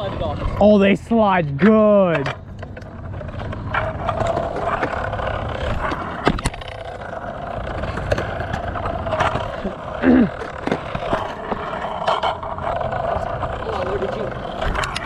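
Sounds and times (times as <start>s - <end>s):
skateboard wheels rolling on concrete: 0.0s - 15.0s
skateboard clacks: 1.6s - 15.0s.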